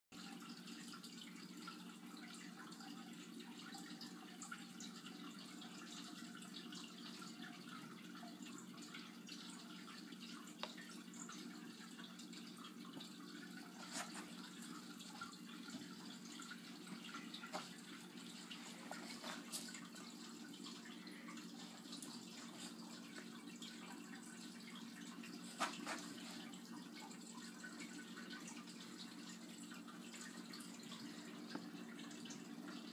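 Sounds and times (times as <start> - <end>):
faint room hum and hiss: 0.2 - 32.9.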